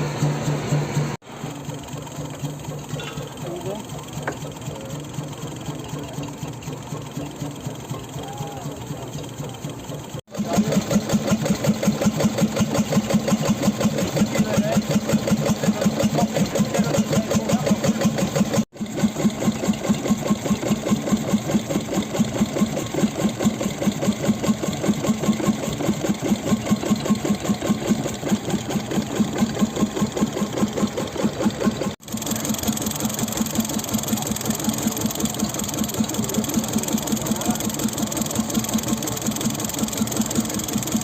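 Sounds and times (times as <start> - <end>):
marine engine knocking: 0.0 - 41.0.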